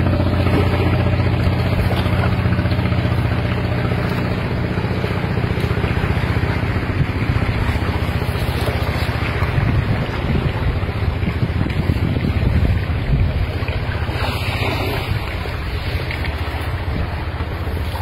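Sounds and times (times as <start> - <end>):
engine hum: 0.0 - 18.0
wind noise on microphone: 0.0 - 18.0.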